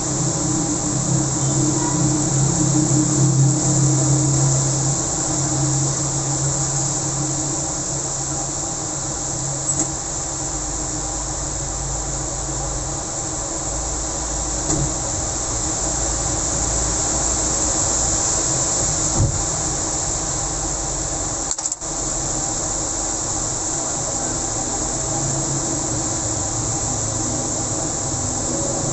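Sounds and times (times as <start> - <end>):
heavy rain hissing: 0.0 - 28.9
traffic on a wet road: 0.0 - 28.9
vehicle engine hum: 0.0 - 28.9.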